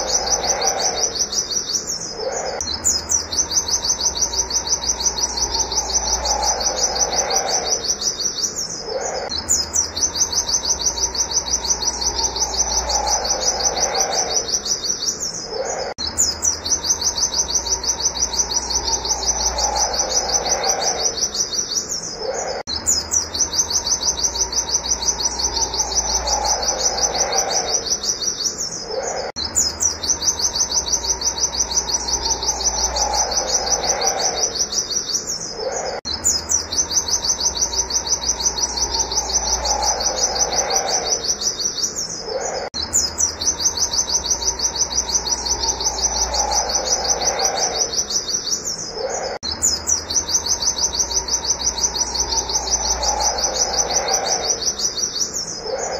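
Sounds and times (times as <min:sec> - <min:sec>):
bird singing high notes: 0:00.0 - 0:55.9.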